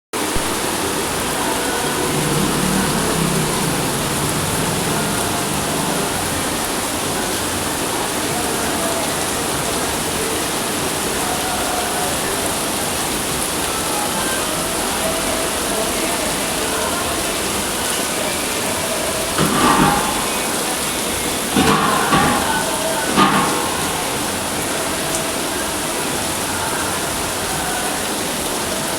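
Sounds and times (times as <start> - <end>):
faint voices: 0.2 - 28.9
heavy rain falling: 0.2 - 28.9.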